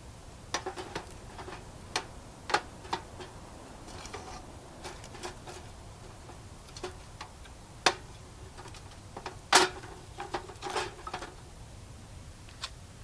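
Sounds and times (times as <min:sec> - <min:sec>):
handling clicks and knocks: 0:00.5 - 0:11.4.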